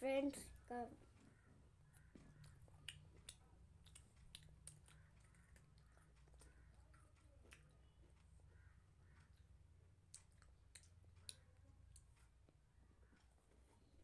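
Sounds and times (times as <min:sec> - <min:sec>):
low steady hum: 0:00.0 - 0:14.0
chewing cookie: 0:01.0 - 0:14.0.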